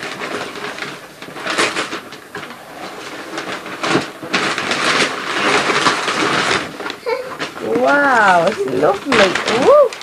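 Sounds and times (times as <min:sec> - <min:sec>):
foil gift wrap tearing: 0:00.0 - 0:10.0.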